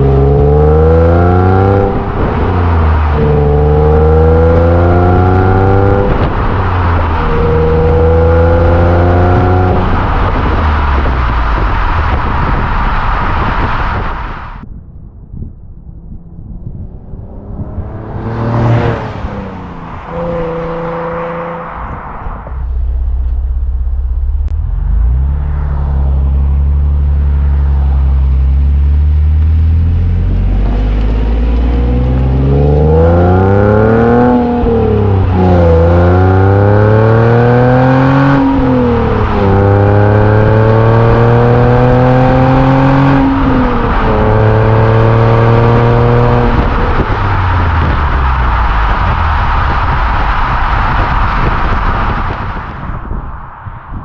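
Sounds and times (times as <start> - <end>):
car engine accelerating through gears: 0.0 - 14.6, 15.7 - 52.6
car exhaust burst: 0.0 - 28.6, 30.3 - 53.4.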